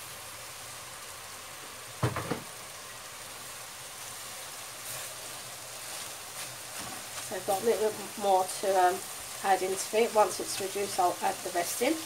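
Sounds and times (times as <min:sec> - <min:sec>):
meatballs sizzling in a frying pan: 0:00.0 - 0:12.0.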